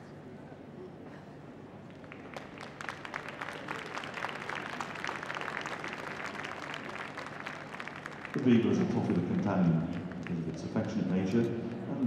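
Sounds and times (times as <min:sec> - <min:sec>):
audience applauding: 0:01.9 - 0:12.0.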